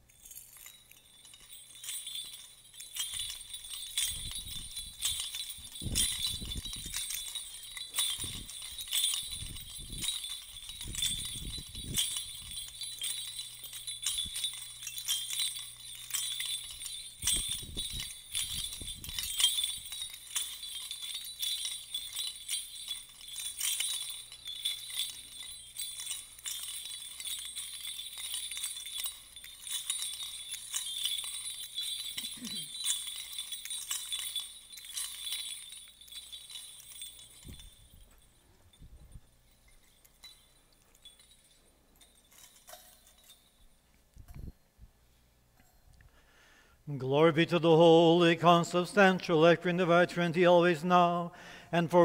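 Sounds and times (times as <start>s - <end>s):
censer bells jingling: 0.0s - 44.5s, 45.6s - 52.0s.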